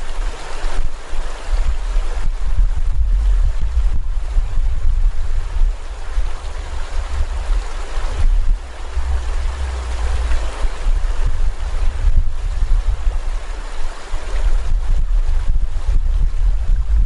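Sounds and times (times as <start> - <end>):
river water rushing: 0.0 - 17.0
wind buffeting microphone: 0.0 - 17.0.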